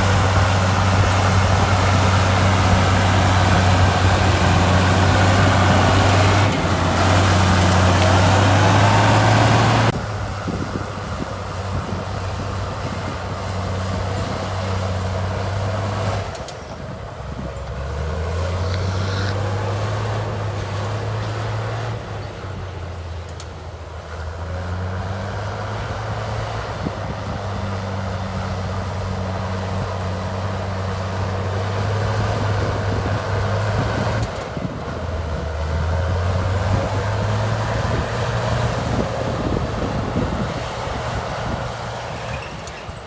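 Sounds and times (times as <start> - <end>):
heavy diesel engine under load: 0.0 - 43.0.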